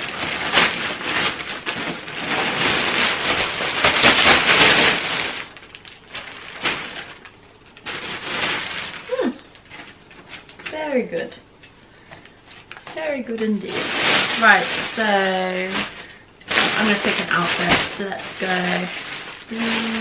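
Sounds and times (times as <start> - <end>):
plastic bag crinkling: 0.0 - 11.1, 12.1 - 20.0.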